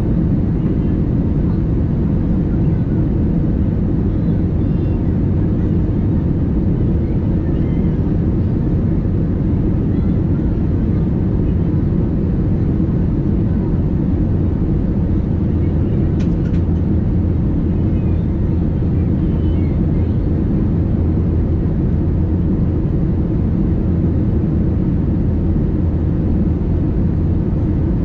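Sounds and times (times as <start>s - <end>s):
airliner cabin engine rumble: 0.0s - 28.0s.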